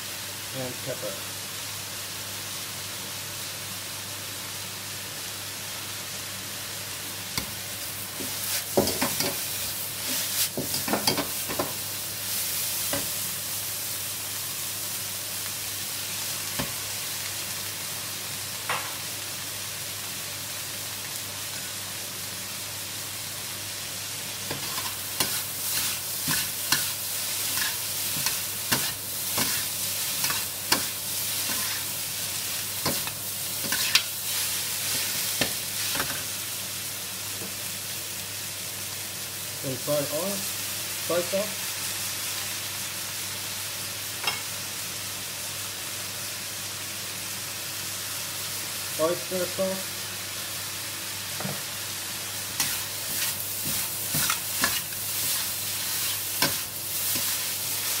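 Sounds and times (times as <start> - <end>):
vegetables sizzling in a wok: 0.0 - 58.0.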